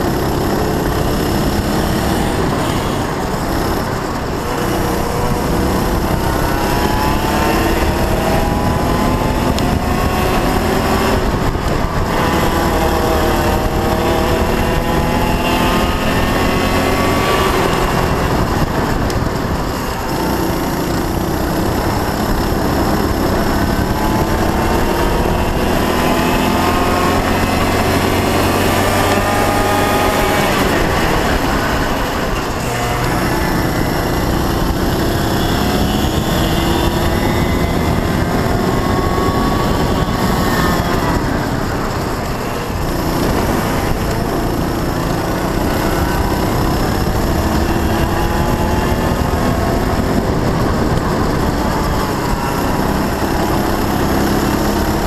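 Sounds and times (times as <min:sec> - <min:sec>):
kart engine revving: 0:00.0 - 0:55.0
wind and road noise: 0:00.0 - 0:55.0.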